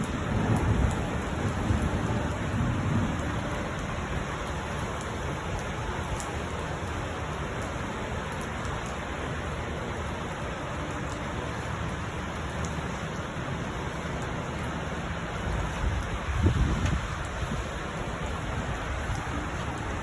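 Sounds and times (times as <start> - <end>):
faint raindrop ticks: 0.0 - 20.0
steady rain hiss: 0.0 - 20.0.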